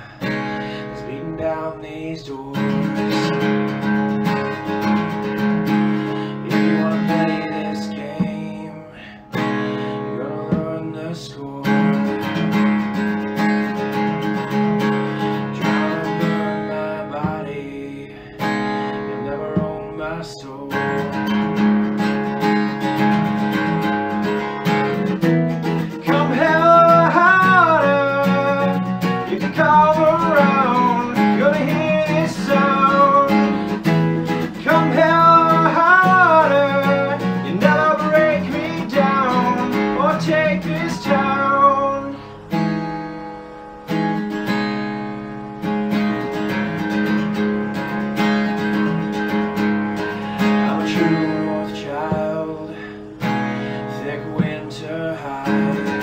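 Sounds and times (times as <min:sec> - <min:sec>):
strummed acoustic guitar: 0:00.0 - 0:56.0.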